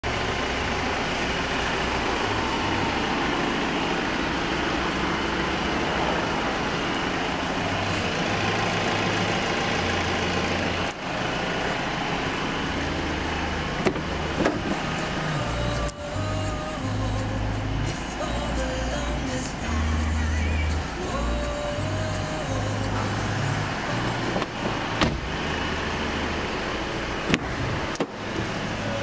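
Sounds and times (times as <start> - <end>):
motor vehicle noise: 0.0 - 29.0.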